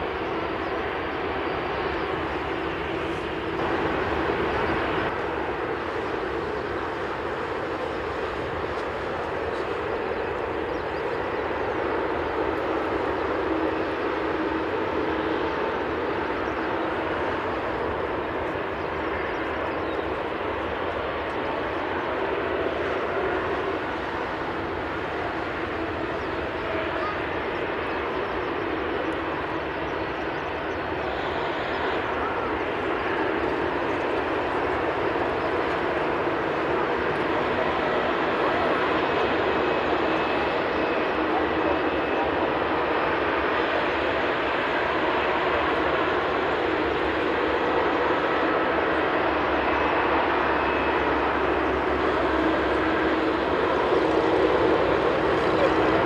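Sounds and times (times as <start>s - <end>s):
jet engine noise: 0.0s - 56.0s.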